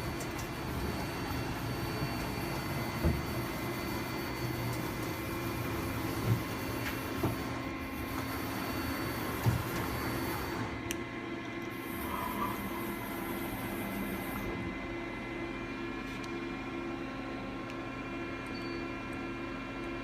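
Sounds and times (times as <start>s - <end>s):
lathe mechanical hum: 0.0s - 20.0s.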